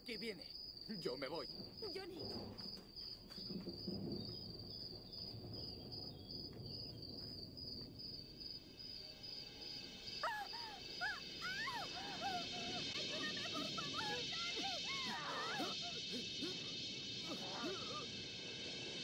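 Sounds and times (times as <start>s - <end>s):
crickets chirping: 0.0s - 19.0s
low background rumble: 0.7s - 19.0s.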